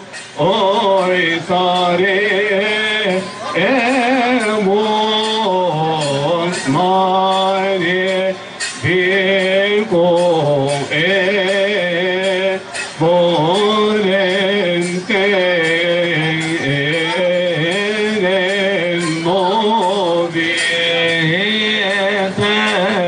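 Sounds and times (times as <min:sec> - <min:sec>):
man singing a hymn: 0:00.0 - 0:23.0
sharp percussion strikes: 0:00.0 - 0:23.0.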